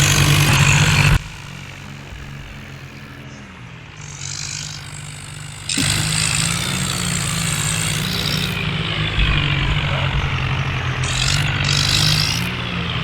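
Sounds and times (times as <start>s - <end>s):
tractor diesel engines under load: 0.0s - 13.0s.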